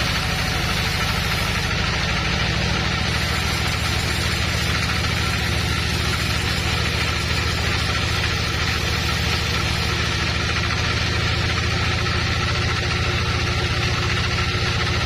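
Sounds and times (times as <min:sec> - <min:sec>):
woodworking machinery humming: 0:00.0 - 0:15.0.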